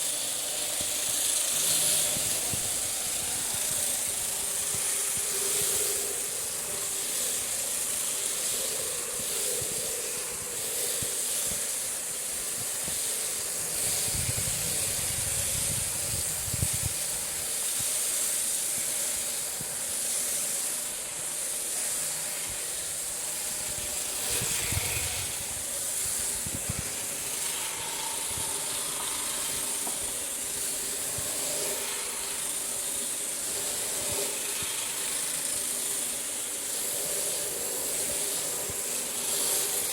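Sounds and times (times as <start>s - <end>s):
electric shearing handpiece hissing: 0.0s - 39.9s.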